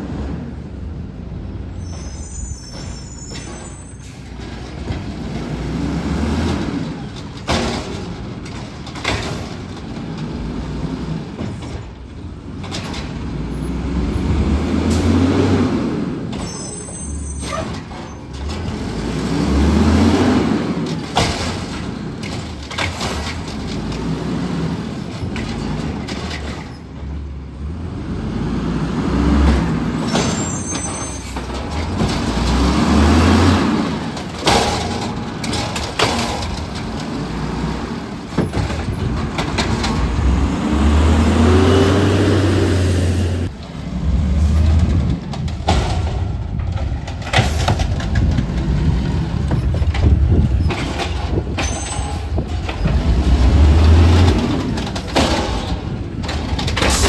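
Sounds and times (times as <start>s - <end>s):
garbage truck engine revving: 4.4s - 11.4s, 12.4s - 16.4s, 17.6s - 51.6s, 52.2s - 57.0s.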